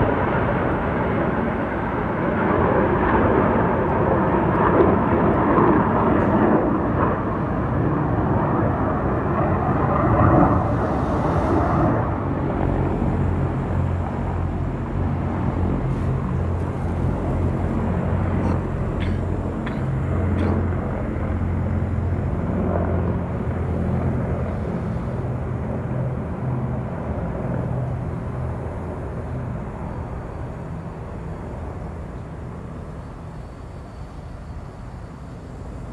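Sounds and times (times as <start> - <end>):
aircraft engines rumbling overhead: 0.0 - 35.9.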